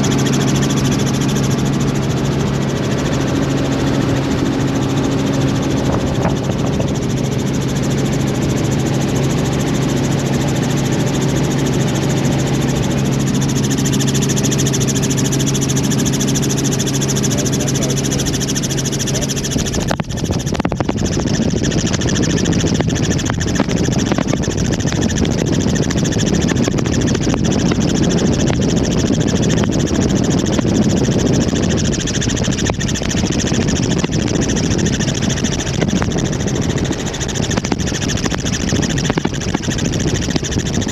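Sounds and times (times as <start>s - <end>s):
helicopter engine hum: 0.0s - 40.9s.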